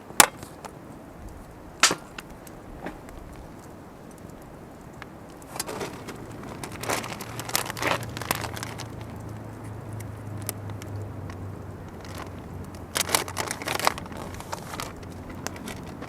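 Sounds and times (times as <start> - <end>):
objects clicking and rustling: 1.8 - 16.0.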